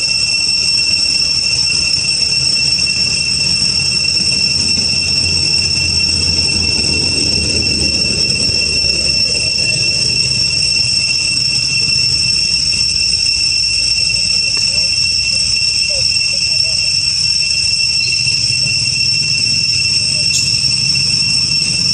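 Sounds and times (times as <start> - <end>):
insects droning high-pitched: 0.0 - 21.9
low rumble: 1.2 - 15.8, 16.6 - 21.9.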